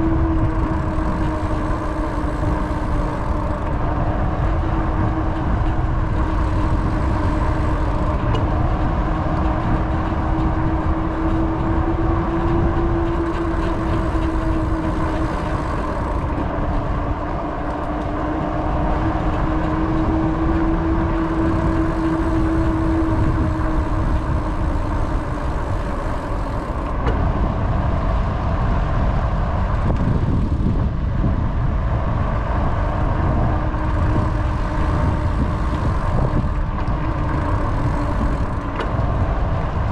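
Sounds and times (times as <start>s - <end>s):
steady hum: 0.0s - 39.9s
wind on microphone: 0.0s - 39.9s.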